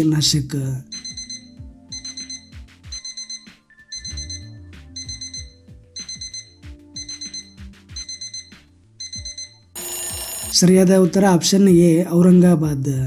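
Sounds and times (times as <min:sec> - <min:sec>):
countdown timer ticks: 0:00.8 - 0:11.3
background music with pulsing beat: 0:00.8 - 0:11.4.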